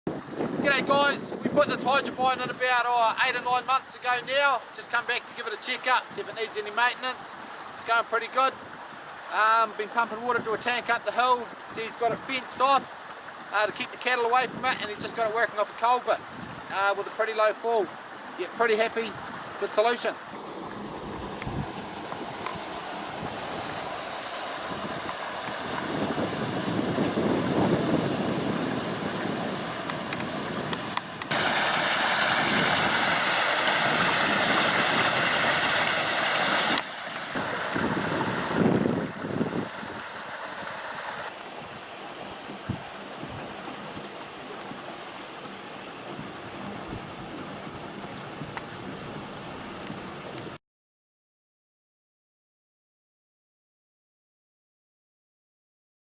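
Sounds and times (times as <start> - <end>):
water rushing through culvert: 0.1 - 50.6.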